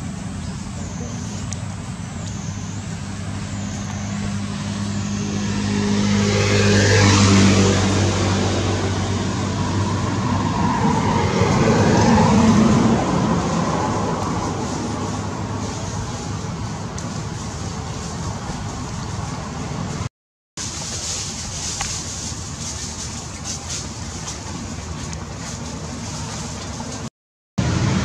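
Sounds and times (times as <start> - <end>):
vehicles passing by: 0.0 - 28.0.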